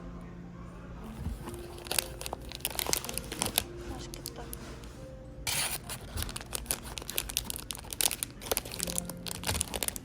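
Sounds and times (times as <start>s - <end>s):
gift wrapping crinkling: 1.1s - 4.9s, 5.5s - 10.0s.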